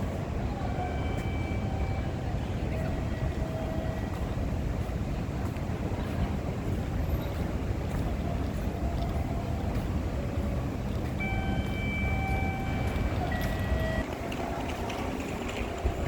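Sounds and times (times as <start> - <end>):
low rumble of station ambience: 0.0 - 16.0.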